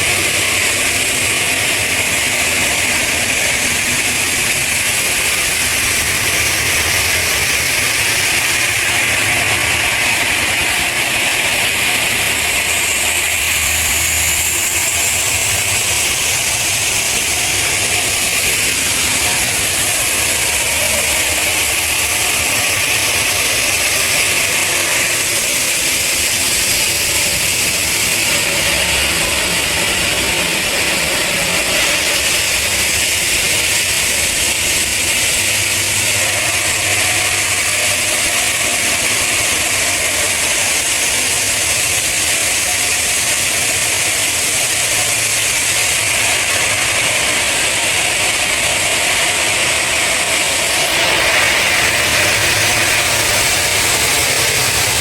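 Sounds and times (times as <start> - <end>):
stone-processing machinery: 0.0 - 55.0.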